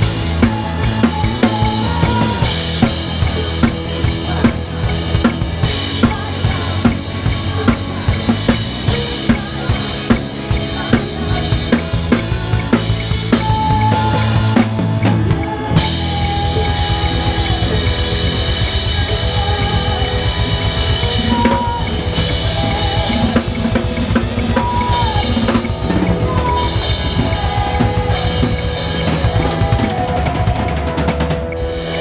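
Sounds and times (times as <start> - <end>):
drum kit playing: 0.0 - 32.0
live worship band playing: 0.0 - 32.0
singers holding notes: 0.0 - 32.0.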